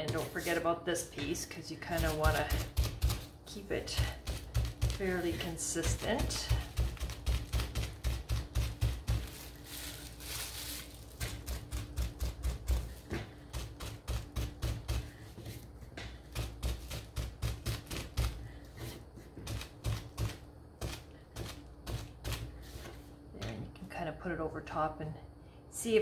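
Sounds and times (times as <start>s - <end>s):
bubble wrap dabbing on wood: 0.0s - 23.0s.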